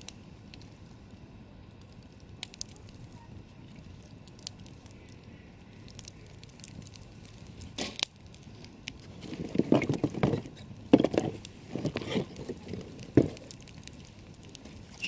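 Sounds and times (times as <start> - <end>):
campfire crackling and popping: 0.0 - 15.0
wood shifting in fire: 0.0 - 15.0.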